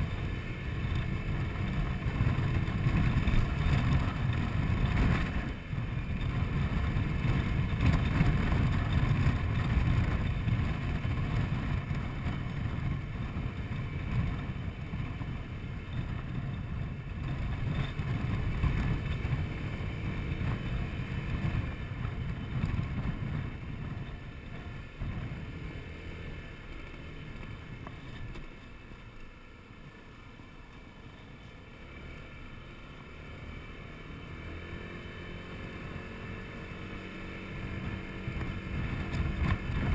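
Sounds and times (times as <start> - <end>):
wind rumbling on microphone: 0.0 - 29.2, 31.0 - 39.9
road noise: 0.0 - 39.9
scooter engine: 0.0 - 39.9.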